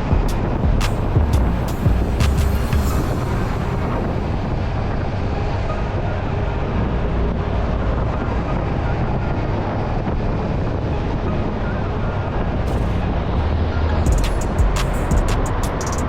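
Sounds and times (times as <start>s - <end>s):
wind rushing over microphone: 0.0s - 15.8s.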